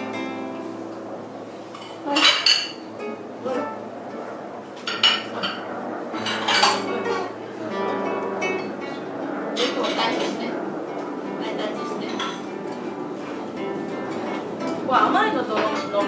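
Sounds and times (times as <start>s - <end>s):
acoustic guitar playing softly: 0.0s - 16.0s.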